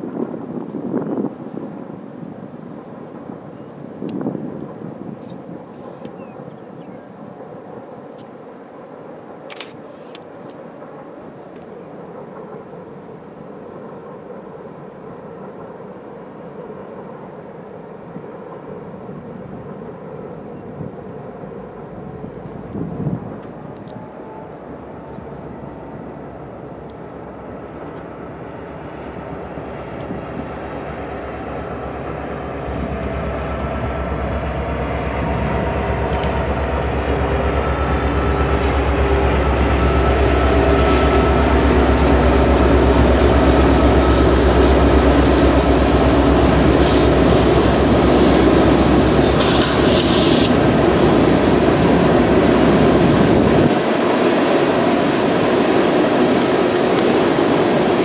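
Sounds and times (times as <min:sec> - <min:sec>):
train rumble and rail noise: 0:00.0 - 0:58.0.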